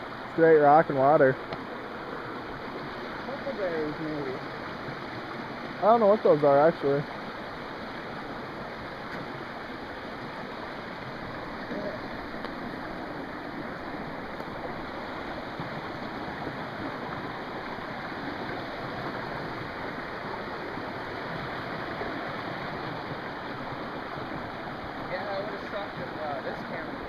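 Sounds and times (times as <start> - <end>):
creek water rushing over rocks: 0.0 - 27.0.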